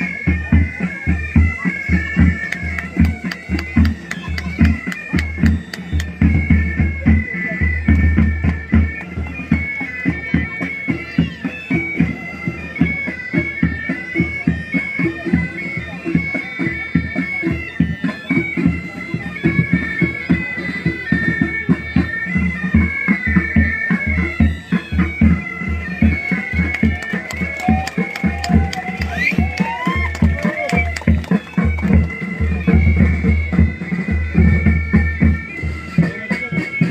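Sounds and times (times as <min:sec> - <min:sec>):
bagpipes playing a marching tune: 0:00.0 - 0:36.9.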